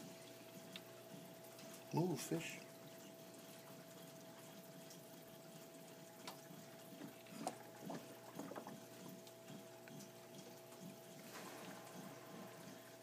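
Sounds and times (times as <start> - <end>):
small water splashes: 0.0 - 13.0
steady pump hum: 0.0 - 13.0
water moving in aquarium: 0.0 - 13.0.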